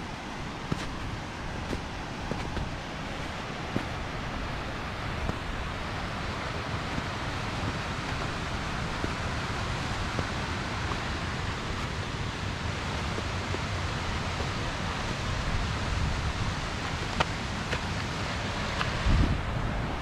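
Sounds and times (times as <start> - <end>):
mountain creek rushing: 0.0 - 20.0
wind buffeting microphone: 0.4 - 20.0.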